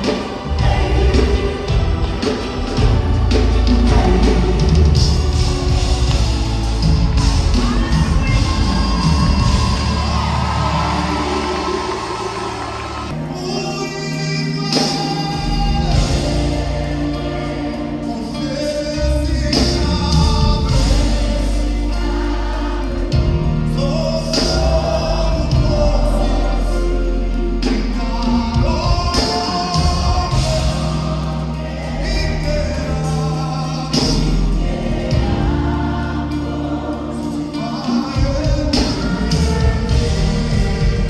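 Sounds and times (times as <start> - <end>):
band with bass and drums: 0.0 - 13.2, 14.8 - 18.1, 19.1 - 41.0
choir and lead voices singing: 0.0 - 41.0.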